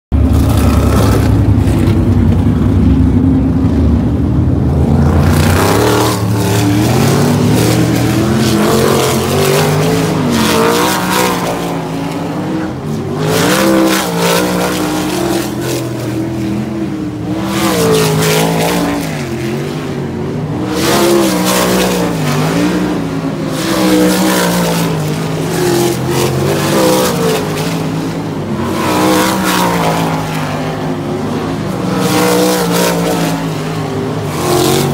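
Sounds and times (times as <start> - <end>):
race car engines revving: 0.1 - 34.9.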